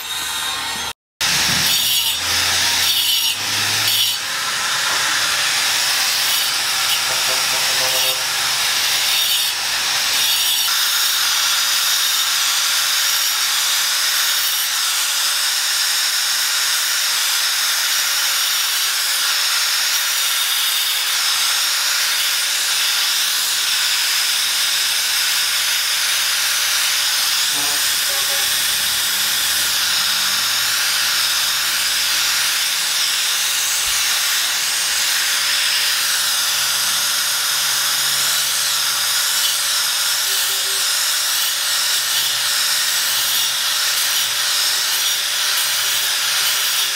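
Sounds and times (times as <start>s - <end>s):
angle grinder cutting stone: 0.0s - 46.9s.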